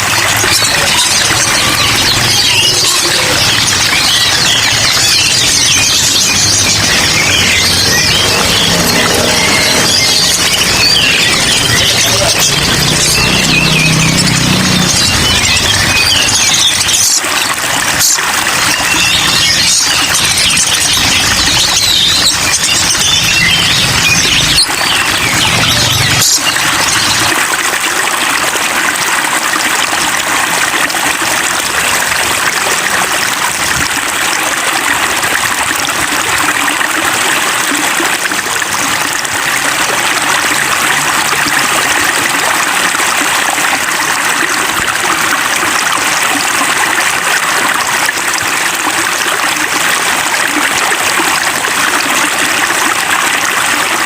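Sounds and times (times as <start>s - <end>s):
rain and running water: 0.0s - 54.0s.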